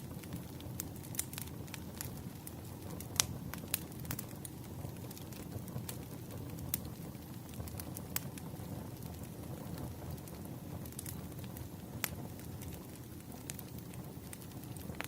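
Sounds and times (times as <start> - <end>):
campfire flames rumbling: 0.0 - 15.0
fire crackles and pops: 0.0 - 15.0.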